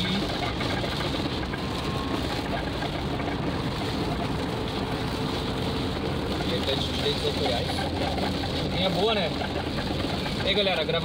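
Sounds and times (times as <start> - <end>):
car engine and tyre noise: 0.0 - 11.0
rain on car: 0.0 - 11.0.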